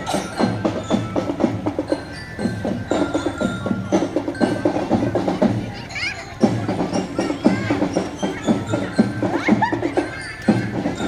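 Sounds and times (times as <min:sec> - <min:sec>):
glockenspiel notes: 0:00.0 - 0:11.0
marching drums: 0:00.0 - 0:11.0.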